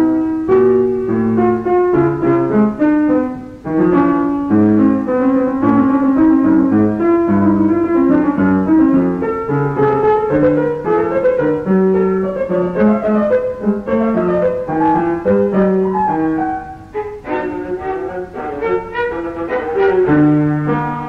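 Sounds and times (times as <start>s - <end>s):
chamber music strings and piano: 0.0s - 21.0s
piano chords and note runs: 0.0s - 21.0s.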